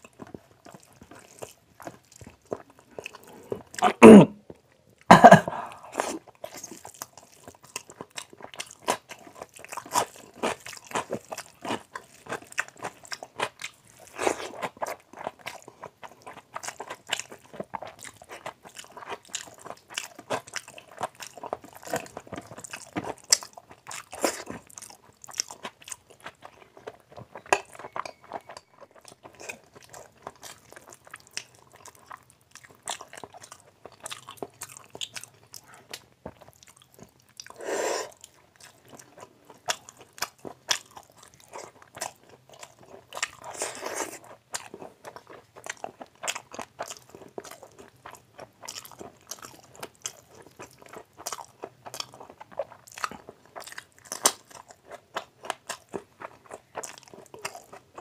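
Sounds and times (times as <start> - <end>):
wet chewing and lip-smacking: 0.0 - 4.8, 5.6 - 58.0.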